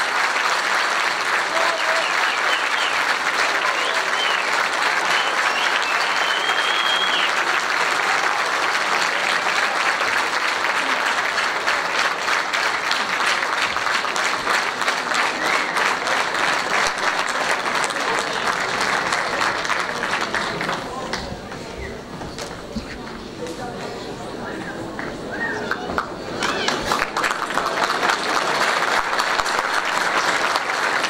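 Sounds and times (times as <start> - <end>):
audience applause: 0.0 - 23.7, 24.3 - 31.0.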